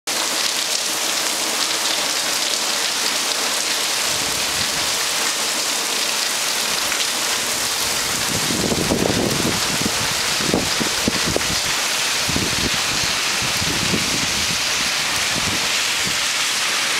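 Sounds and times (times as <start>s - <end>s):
heavy rain on pavement: 0.1s - 16.9s.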